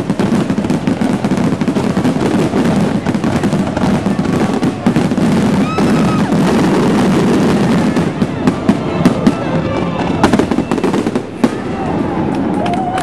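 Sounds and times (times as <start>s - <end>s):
fireworks bangs: 0.0s - 13.0s
fireworks crackling and popping: 0.0s - 13.0s.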